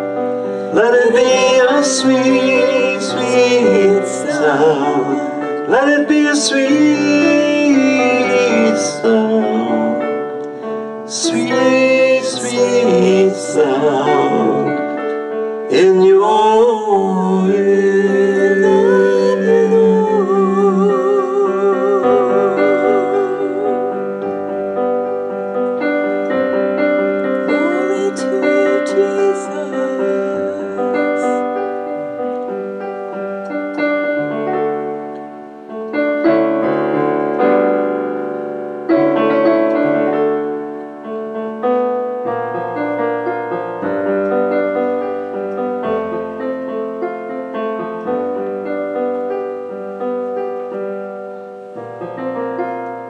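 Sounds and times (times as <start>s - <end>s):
grand piano chords: 0.0s - 53.0s.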